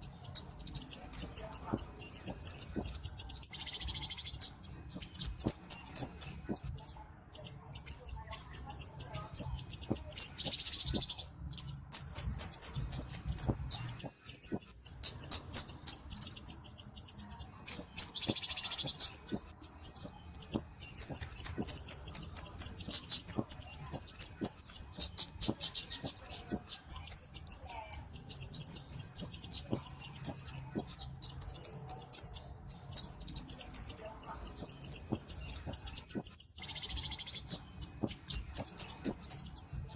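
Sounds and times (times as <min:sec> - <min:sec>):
bird singing high-pitched ticking trills: 0:00.0 - 0:39.9.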